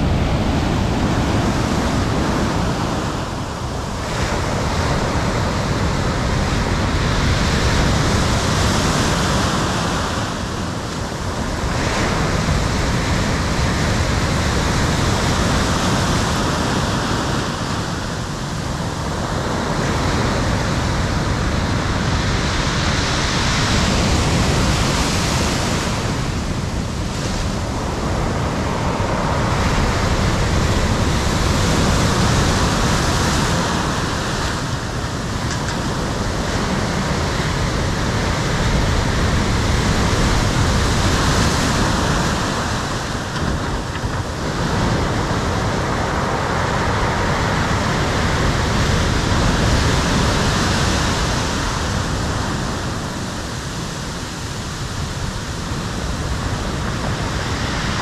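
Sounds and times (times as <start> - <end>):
heavy waves breaking: 0.0 - 58.0.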